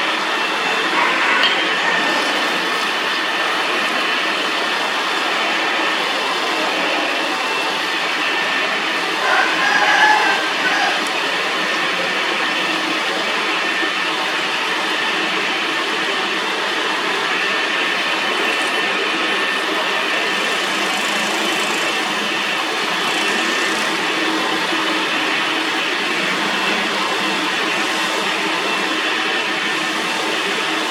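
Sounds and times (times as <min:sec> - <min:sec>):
metal lathe running: 0:00.0 - 0:30.9.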